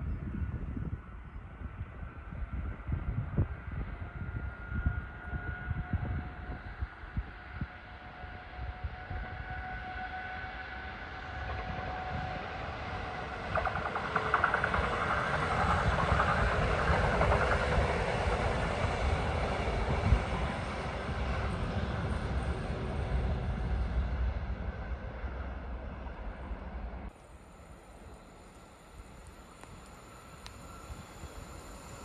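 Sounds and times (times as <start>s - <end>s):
wind buffeting microphone: 0.0s - 10.0s, 11.1s - 27.1s
train passing: 2.1s - 32.0s.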